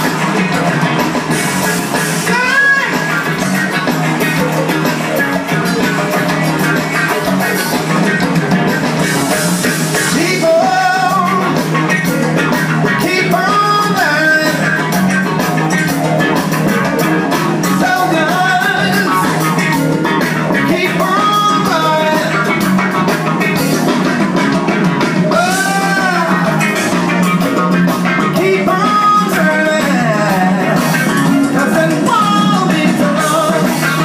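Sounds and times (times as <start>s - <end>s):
rock music through loudspeakers: 0.0s - 34.0s.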